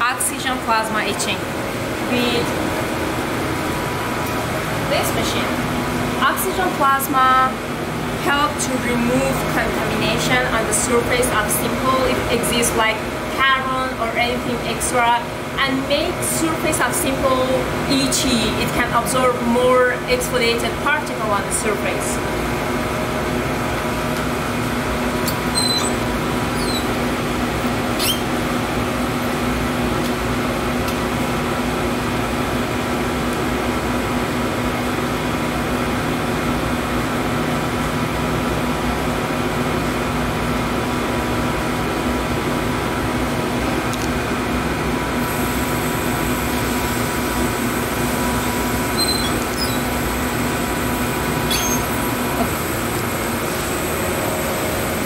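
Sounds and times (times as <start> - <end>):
air handling and machinery hum: 0.0 - 55.0.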